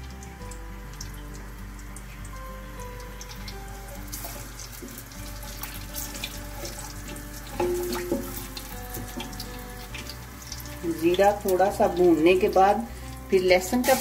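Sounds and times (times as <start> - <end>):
seeds sizzling in hot oil: 0.0 - 14.0.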